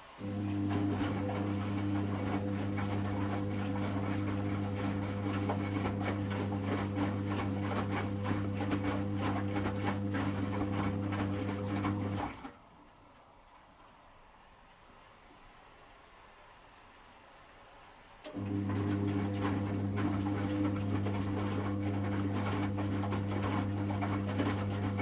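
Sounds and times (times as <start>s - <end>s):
washing machine motor hum: 0.0s - 13.4s, 18.3s - 25.0s
laundry sloshing and thudding in drum: 0.0s - 13.6s, 18.3s - 25.0s.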